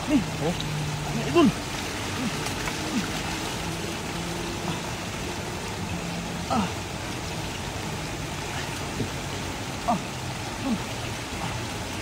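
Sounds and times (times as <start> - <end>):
flowing floodwater: 0.0 - 12.0
rain: 0.0 - 12.0.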